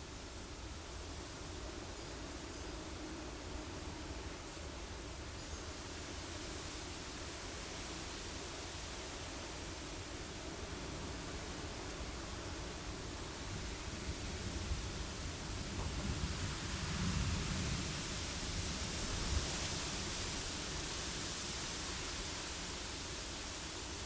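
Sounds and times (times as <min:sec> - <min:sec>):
steady rain: 0:00.0 - 0:24.0
wind: 0:00.0 - 0:24.0.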